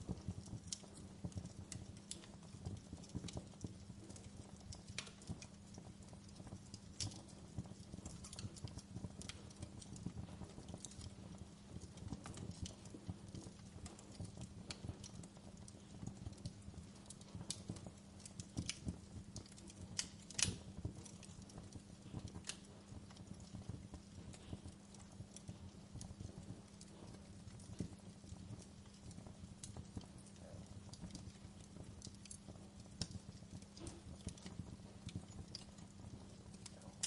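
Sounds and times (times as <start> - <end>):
faint low hum: 0.0 - 37.0
wood fire crackling: 0.0 - 37.0.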